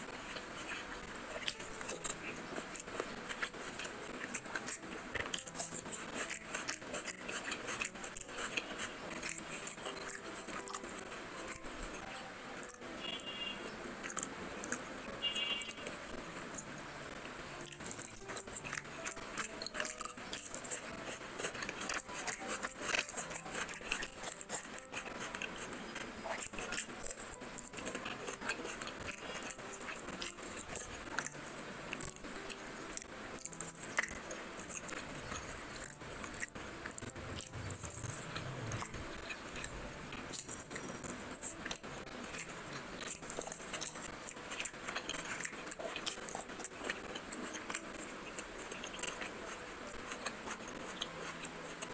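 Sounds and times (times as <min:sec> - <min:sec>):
chewing and biting fried fish: 0:00.0 - 0:51.9.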